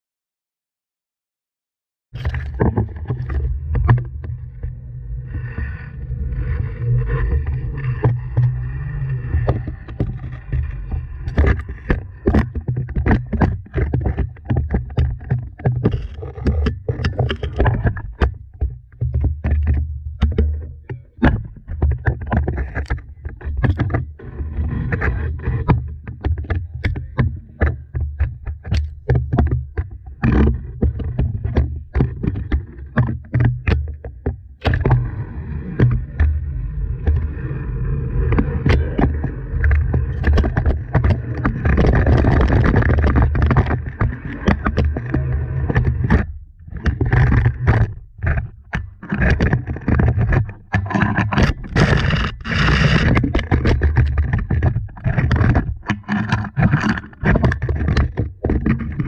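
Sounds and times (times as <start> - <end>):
low rumbling handling noise: 2.2 - 59.0.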